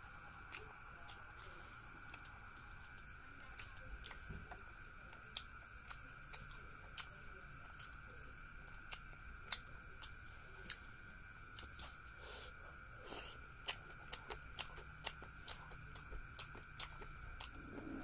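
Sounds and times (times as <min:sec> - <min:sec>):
faint high-pitched hum: 0:00.0 - 0:18.0.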